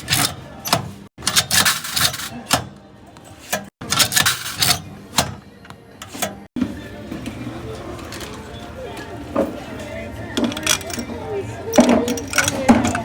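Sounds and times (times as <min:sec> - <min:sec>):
vending machine clicks and rattles: 0:00.0 - 0:13.0.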